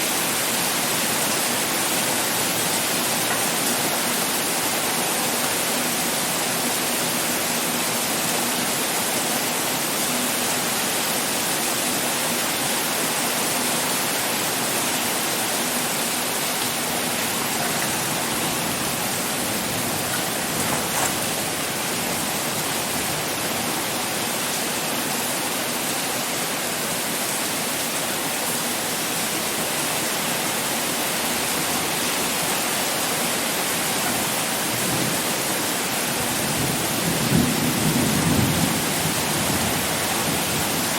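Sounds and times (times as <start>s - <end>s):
heavy pouring rain: 0.0s - 40.9s.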